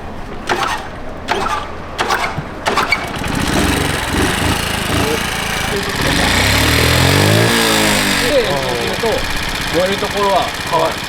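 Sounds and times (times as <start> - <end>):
motorbike engine cranking and starting: 0.0 - 11.0.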